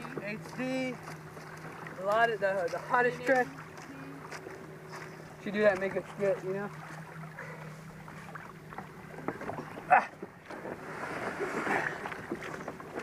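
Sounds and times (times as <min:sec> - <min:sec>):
steady low hum: 0:00.0 - 0:13.0
water lapping against kayak hull: 0:00.0 - 0:13.0.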